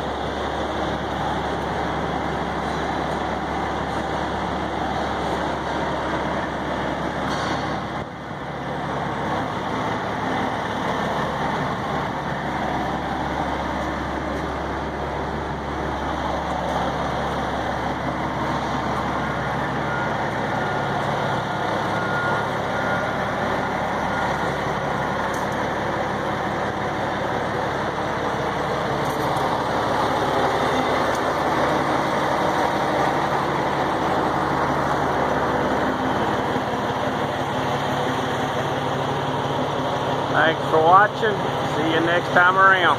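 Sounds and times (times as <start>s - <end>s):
diesel truck engine idling: 0.0s - 42.9s
road traffic: 0.0s - 42.9s.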